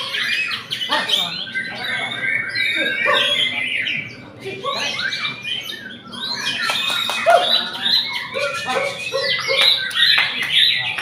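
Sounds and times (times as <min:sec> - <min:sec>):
other songbirds singing: 0:00.0 - 0:11.0
songbird whistles and chatter: 0:00.0 - 0:11.0.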